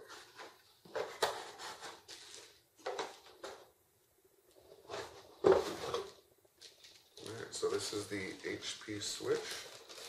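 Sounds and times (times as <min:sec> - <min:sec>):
packaging rustling and scraping: 0:00.0 - 0:03.4, 0:04.7 - 0:10.0.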